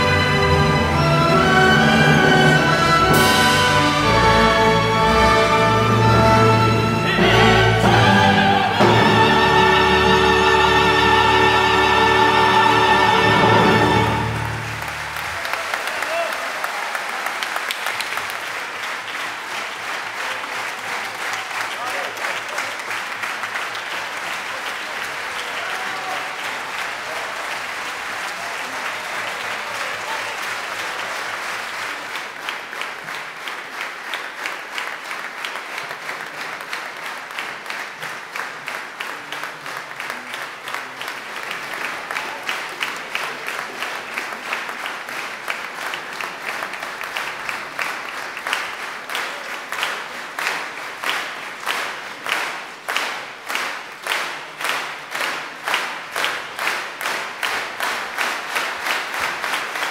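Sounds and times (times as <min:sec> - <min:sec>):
audience applause: 0:00.0 - 0:59.9
rhythmic clapping in unison: 0:00.0 - 0:59.9.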